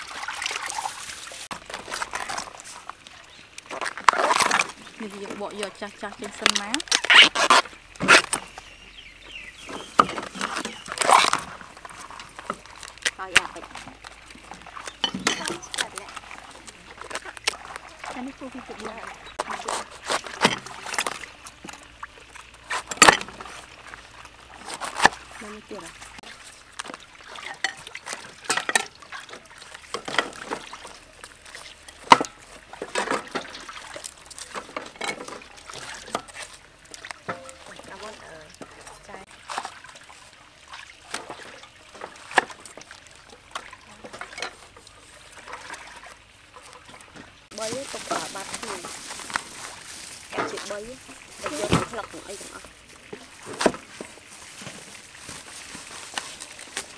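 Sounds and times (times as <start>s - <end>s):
water sloshing in metal bowl: 0.0s - 56.9s.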